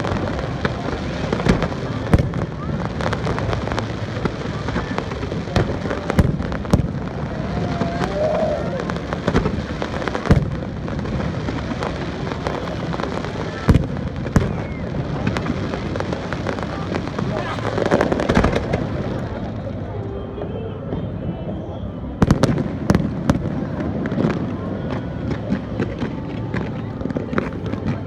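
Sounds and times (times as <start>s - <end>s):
fireworks bangs: 0.0s - 19.5s, 22.2s - 28.0s
fireworks crackling rumble: 0.0s - 28.0s.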